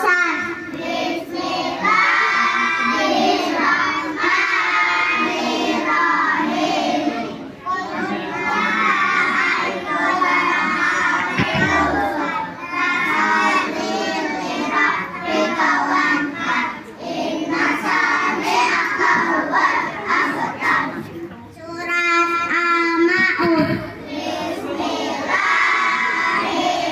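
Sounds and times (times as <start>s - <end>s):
children singing over loudspeaker: 0.0s - 26.9s.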